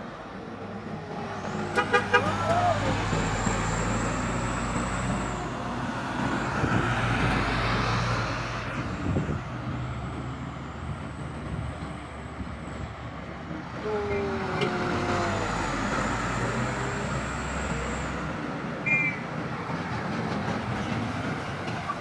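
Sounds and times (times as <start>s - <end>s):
heavy truck engine: 0.0s - 22.0s
tyre and road noise: 0.0s - 22.0s.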